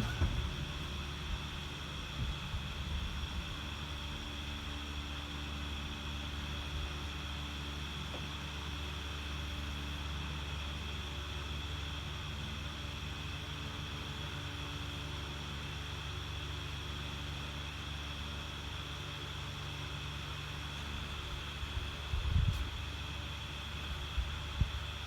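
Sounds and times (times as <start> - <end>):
constant low hum: 0.0 - 25.0.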